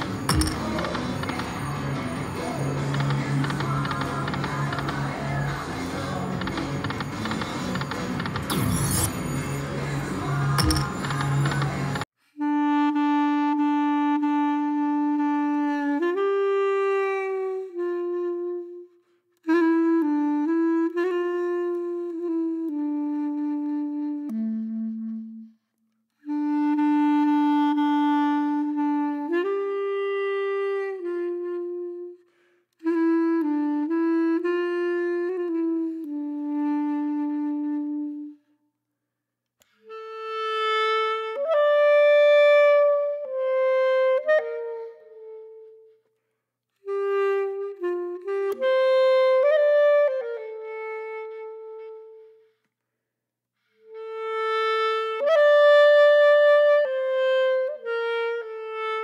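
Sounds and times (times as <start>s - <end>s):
woodwind melody of held notes: 0.0s - 38.7s, 39.6s - 52.7s, 53.6s - 59.0s.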